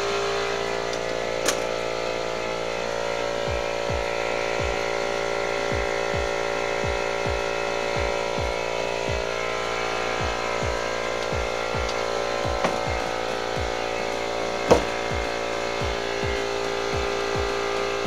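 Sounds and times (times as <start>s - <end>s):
machine humming: 0.0s - 18.0s.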